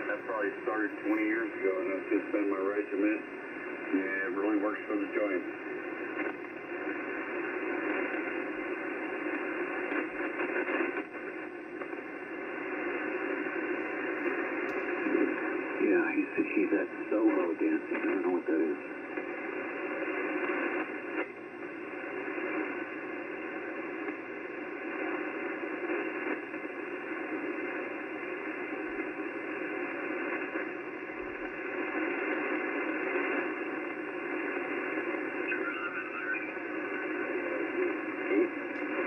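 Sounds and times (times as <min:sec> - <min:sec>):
radio static and hiss: 0:00.0 - 0:39.0.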